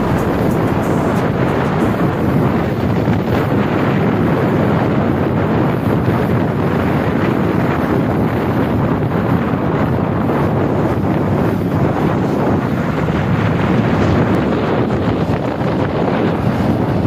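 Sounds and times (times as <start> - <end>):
motorcycle running noise: 0.0 - 16.9
wind buffeting microphone: 0.0 - 17.0.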